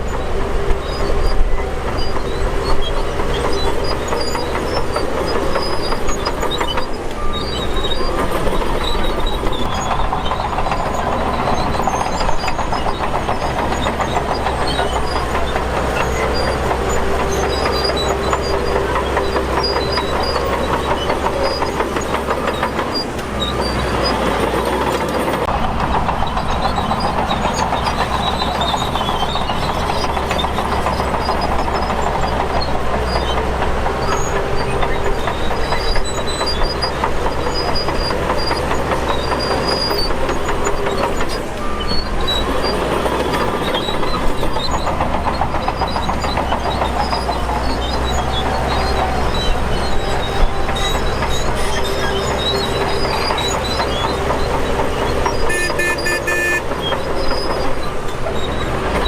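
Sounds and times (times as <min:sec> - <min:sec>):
short high squeaks: 0:00.0 - 0:25.5, 0:26.2 - 0:59.0
bulldozer diesel engine: 0:00.0 - 0:59.0
steel tracks clattering: 0:00.0 - 0:59.0.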